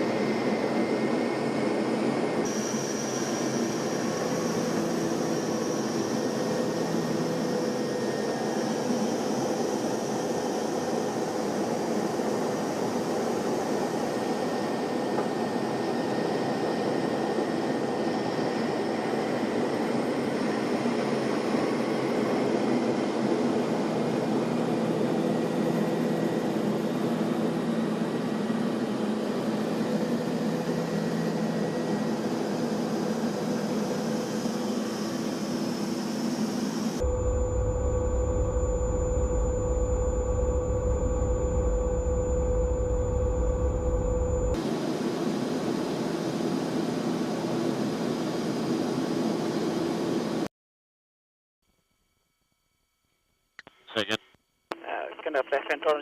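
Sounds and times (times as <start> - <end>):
aircraft engine drone: 0.0 - 50.4.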